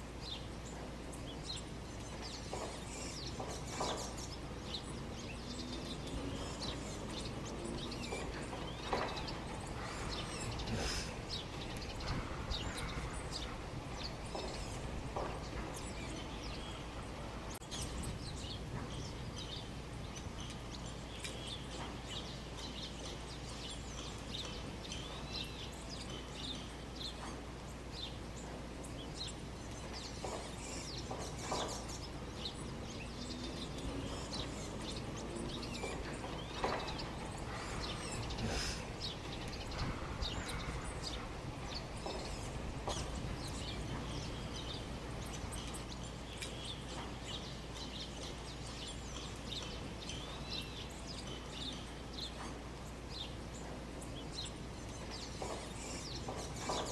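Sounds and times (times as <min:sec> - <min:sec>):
birds chirping: 0:00.0 - 0:56.9
steady background hiss: 0:00.0 - 0:56.9.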